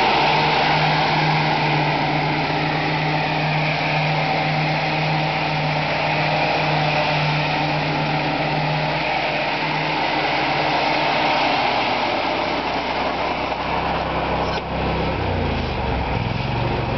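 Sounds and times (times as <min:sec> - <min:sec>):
riding mower engine running: 0:00.0 - 0:16.9.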